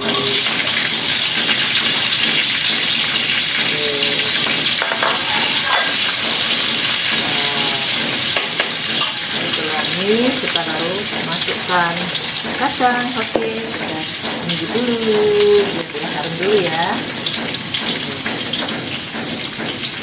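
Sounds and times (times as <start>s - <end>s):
chili sizzling in hot oil: 0.0s - 20.0s.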